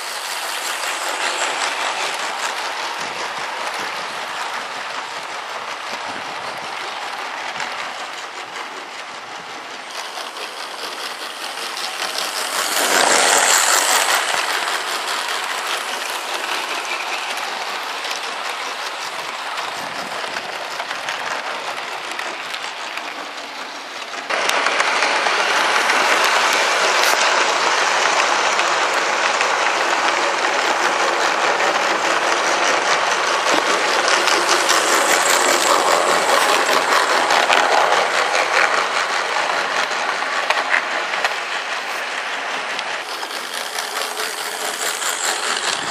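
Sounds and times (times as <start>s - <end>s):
model train wheels clicking: 0.0s - 45.9s.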